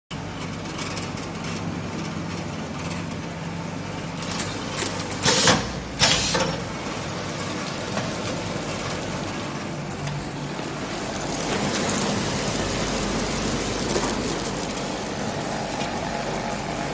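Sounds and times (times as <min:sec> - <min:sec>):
machine mechanical hum: 0:00.1 - 0:16.9.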